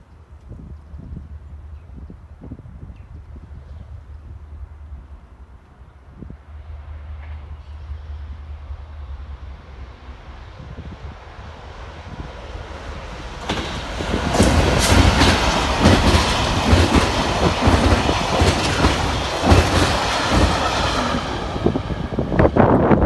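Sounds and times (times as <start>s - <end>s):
diesel locomotive engine: 0.0s - 23.0s.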